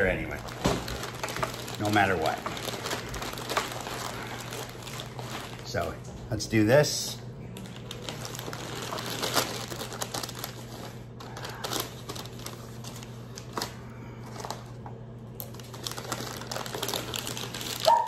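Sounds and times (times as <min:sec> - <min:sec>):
cloth and paper rustling: 0:00.0 - 0:06.0, 0:07.5 - 0:14.8, 0:15.4 - 0:18.0
steady low hum: 0:00.0 - 0:17.9.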